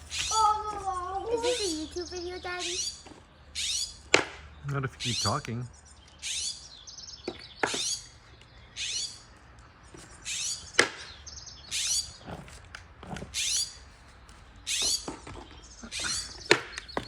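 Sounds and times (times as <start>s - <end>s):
blue jay harsh scolding calls: 0.0s - 9.4s, 10.0s - 12.3s, 13.2s - 13.9s, 14.6s - 17.0s.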